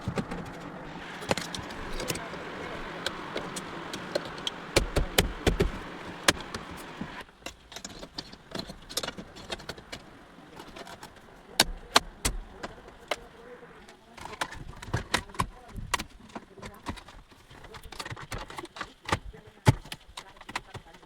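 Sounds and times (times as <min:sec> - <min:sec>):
dashboard plastics clicking and knocking: 0:00.0 - 0:21.0.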